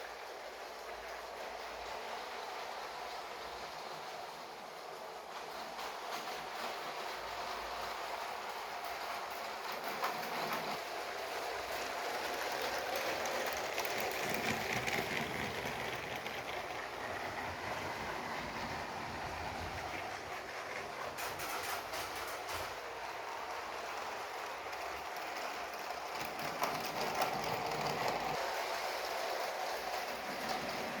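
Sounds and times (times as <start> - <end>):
wheels rattling over plastic track: 0.0 - 31.0
toy train motor whir: 0.2 - 31.0.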